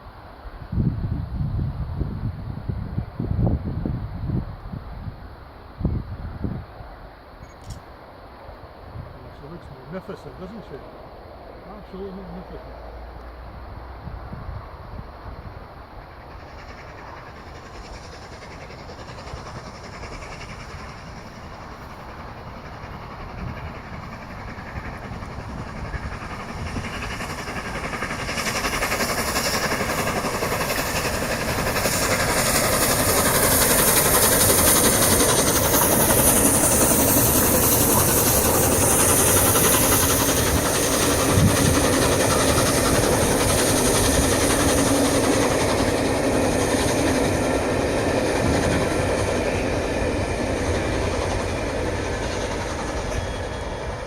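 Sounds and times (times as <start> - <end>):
steam locomotive approaching: 0.0 - 54.0.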